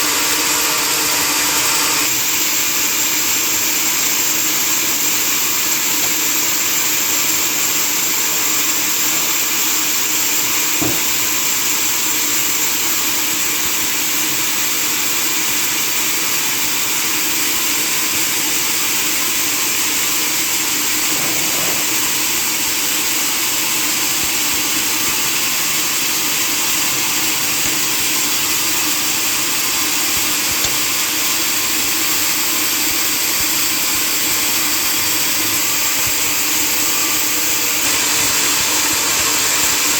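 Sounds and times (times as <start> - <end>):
sawmill machinery hiss and hum: 0.0 - 39.9.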